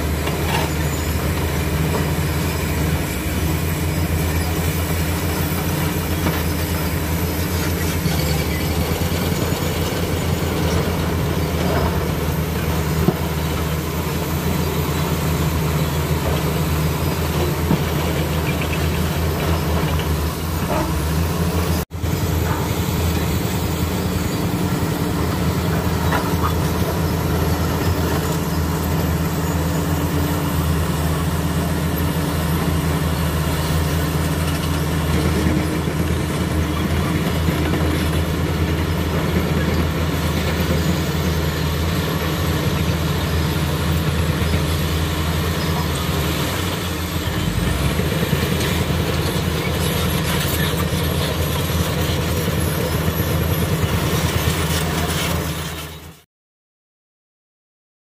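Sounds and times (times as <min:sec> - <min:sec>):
bulldozer diesel engine under load: 0:00.0 - 0:56.2.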